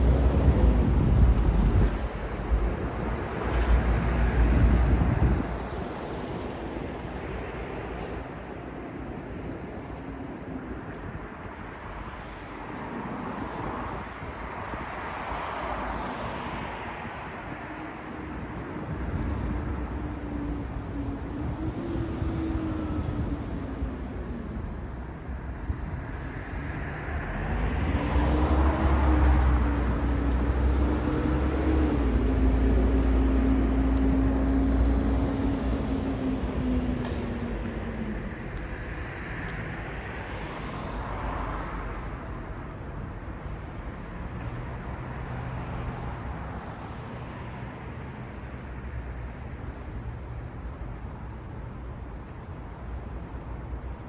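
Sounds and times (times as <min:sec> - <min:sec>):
large vehicle engine droning: 0:00.0 - 0:54.0
vehicles passing: 0:00.0 - 0:54.0.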